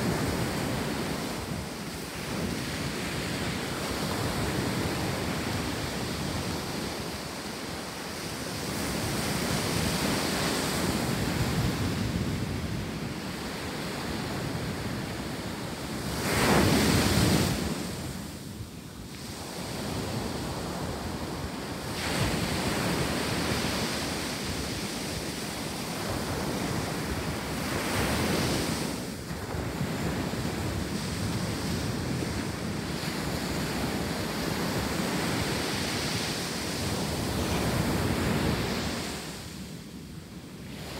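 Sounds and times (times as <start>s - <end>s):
ocean surf washing onto beach: 0.0s - 40.9s
wind on microphone: 0.0s - 40.9s.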